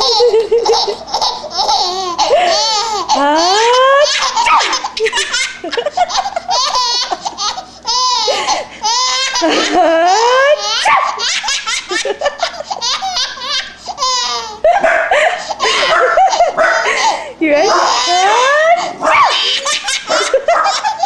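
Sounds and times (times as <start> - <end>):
baby laughing in squealing peals: 0.0 - 21.0.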